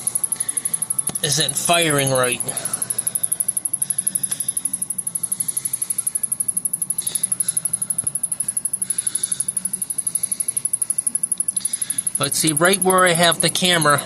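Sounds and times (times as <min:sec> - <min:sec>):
television circuit ticking: 0:00.0 - 0:14.0.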